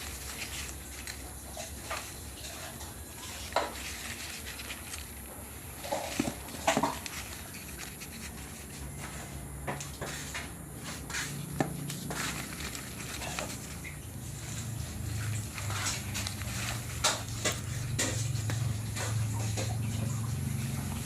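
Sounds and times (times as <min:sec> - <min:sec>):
packaging rustling and clicking: 0:00.0 - 0:10.1, 0:11.1 - 0:19.1.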